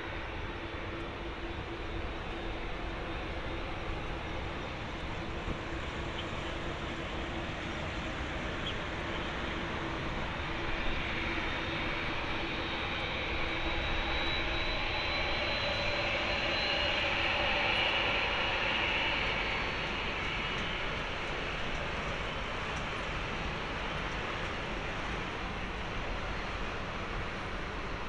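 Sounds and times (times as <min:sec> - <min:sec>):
jet engine whine: 0:00.0 - 0:28.0.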